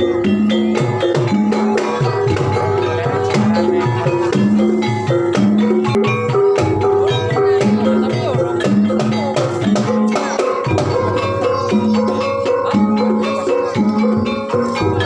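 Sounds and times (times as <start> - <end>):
metallophone notes: 0.0 - 15.0.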